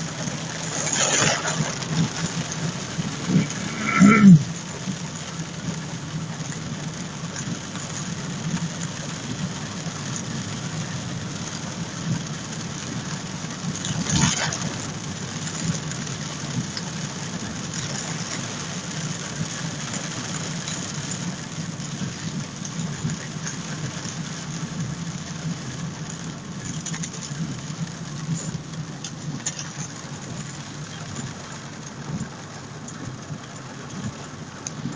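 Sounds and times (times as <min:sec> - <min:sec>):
car engine hum: 0:00.0 - 0:34.9
heavy rain: 0:00.0 - 0:34.9.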